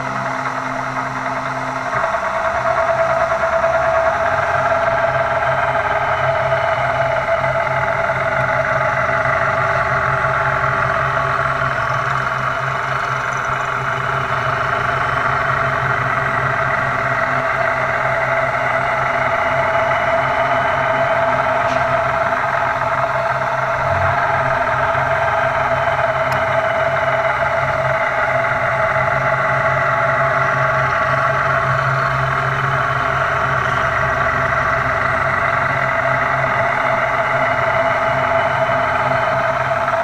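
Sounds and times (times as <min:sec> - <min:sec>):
low machine hum: 0:00.0 - 0:40.0
milling spindle whine: 0:00.0 - 0:40.0.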